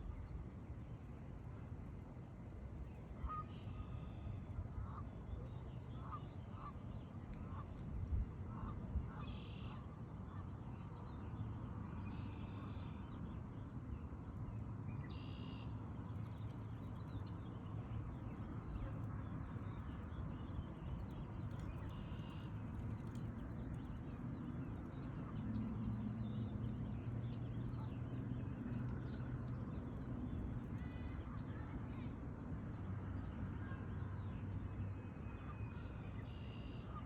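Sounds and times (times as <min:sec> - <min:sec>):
low shoreline rumble: 0:00.0 - 0:37.0.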